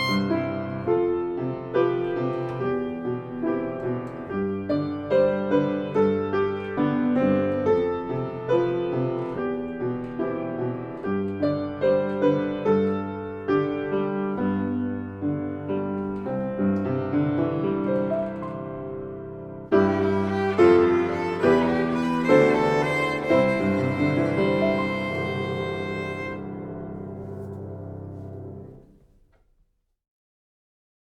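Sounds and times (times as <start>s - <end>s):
gentle piano melody: 0.0s - 29.0s.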